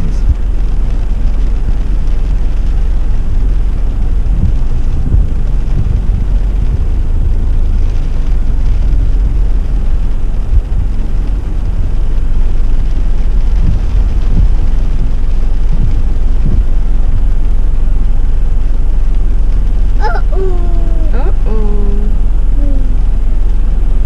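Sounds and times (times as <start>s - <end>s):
car engine and road rumble: 0.0s - 24.0s
low thumps: 0.0s - 24.0s.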